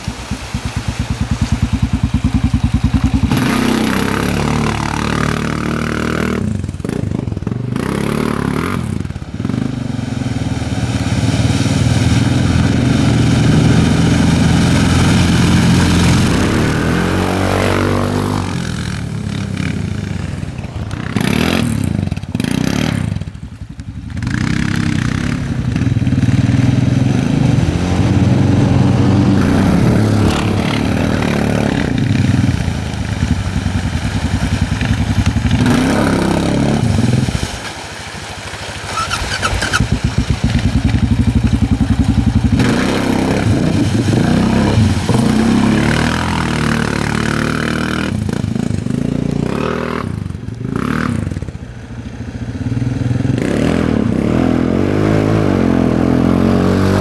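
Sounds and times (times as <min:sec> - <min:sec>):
atv engines revving: 0:00.0 - 0:37.6, 0:38.8 - 0:57.0.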